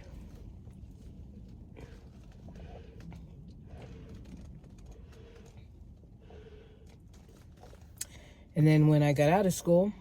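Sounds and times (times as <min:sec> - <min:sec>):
person chewing food: 0:00.0 - 0:08.3.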